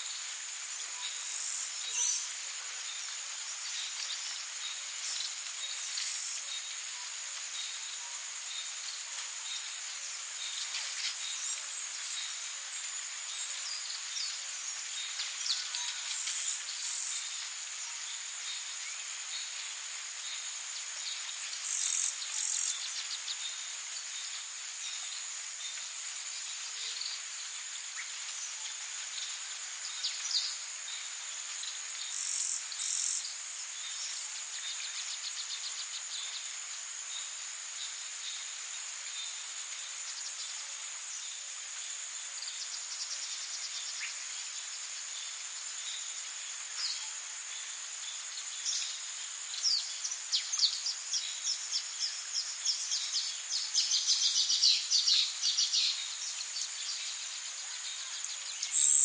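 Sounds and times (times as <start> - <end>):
even hiss: 0.0 - 59.0.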